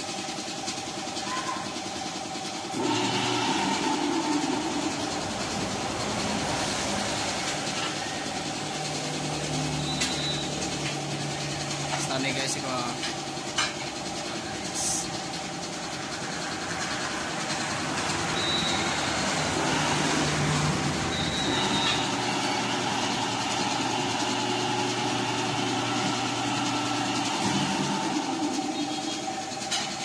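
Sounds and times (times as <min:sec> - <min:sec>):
machinery running hum: 0:00.0 - 0:30.0.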